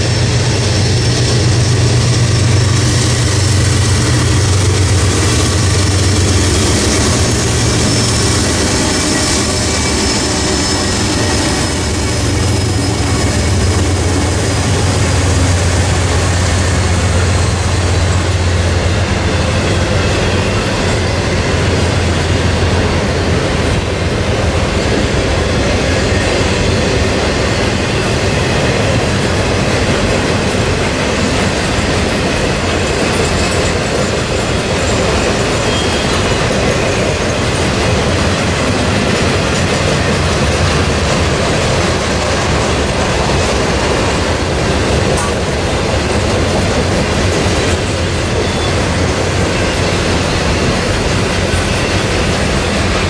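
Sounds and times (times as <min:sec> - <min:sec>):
train wheels rolling on rail: 0:00.0 - 0:53.0.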